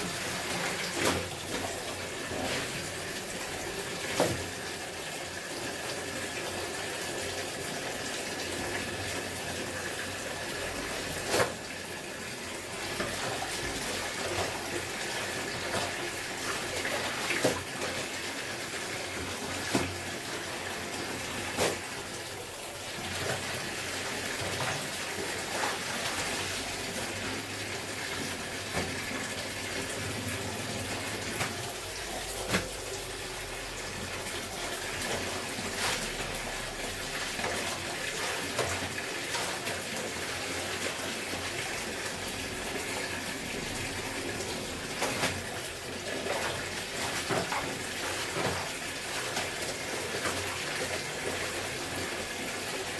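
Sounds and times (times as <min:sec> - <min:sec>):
water running and splashing: 0:00.0 - 0:52.9.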